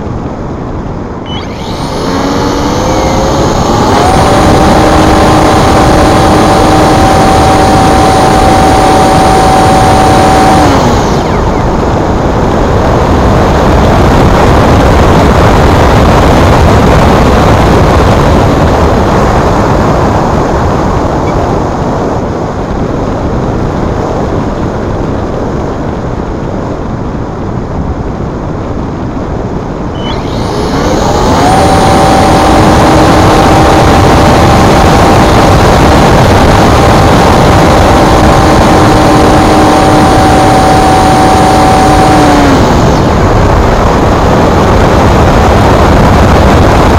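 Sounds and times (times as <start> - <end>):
buffeting wind noise: 0.0 - 46.9
electric motor and propeller whining: 1.1 - 23.4, 29.8 - 46.9.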